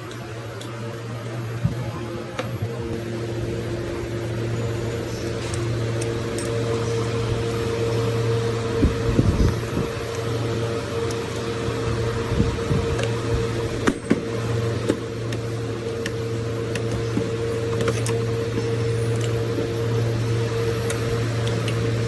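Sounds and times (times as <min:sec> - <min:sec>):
electrical fan hum: 0:00.0 - 0:22.0.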